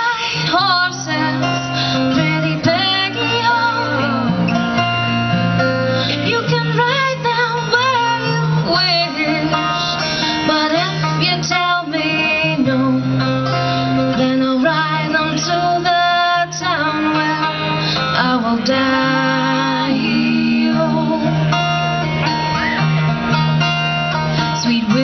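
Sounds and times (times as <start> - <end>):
women singing: 0.0 - 4.8, 6.0 - 21.7, 24.6 - 25.0
acoustic guitars and banjo playing: 0.0 - 25.0.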